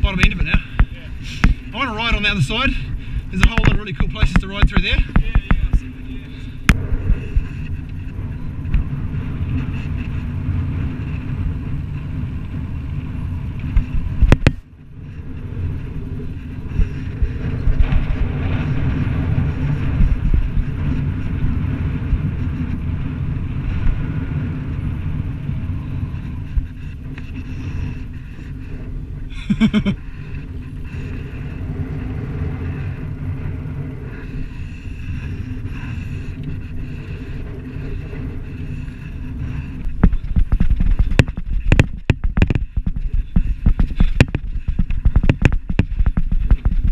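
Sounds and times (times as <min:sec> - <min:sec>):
bike rolling over sand: 0:00.0 - 0:46.9
wind buffeting microphone: 0:00.0 - 0:46.9.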